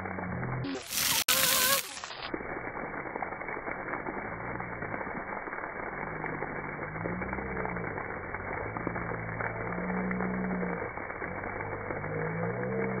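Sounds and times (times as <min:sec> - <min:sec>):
water jets spraying and splashing: 0:00.0 - 0:13.0.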